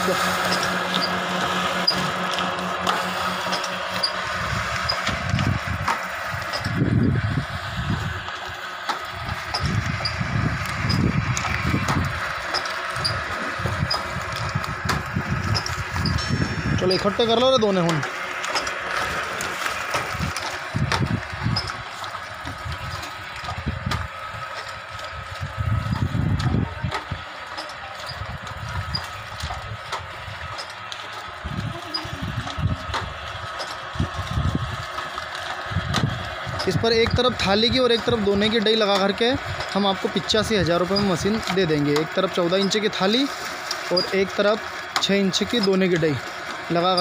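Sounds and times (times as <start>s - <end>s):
press dies stamping low pulses: 0.0s - 47.0s
steady mechanical hum: 0.0s - 47.0s.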